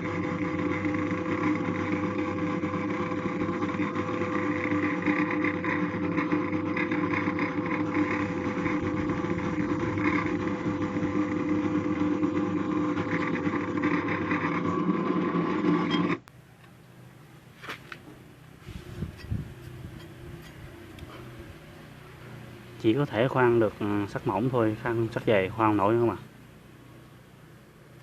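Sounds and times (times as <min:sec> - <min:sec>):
drill press motor running: 0:00.0 - 0:16.3, 0:18.5 - 0:28.0.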